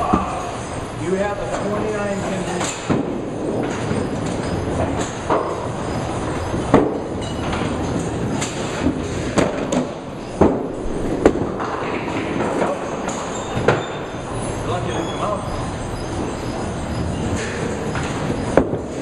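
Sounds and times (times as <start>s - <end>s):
bowling balls rolling: 0.0s - 19.0s
bowling pins clacking: 1.5s - 14.6s, 15.6s - 19.0s.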